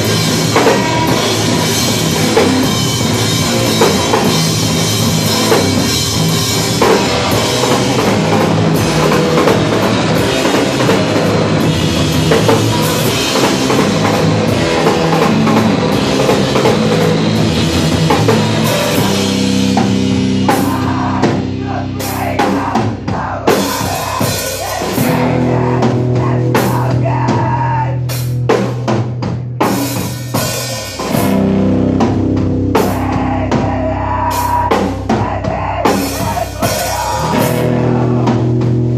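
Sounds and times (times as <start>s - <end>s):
bass drum: 0.0s - 38.9s
live rock band playing: 0.0s - 38.9s.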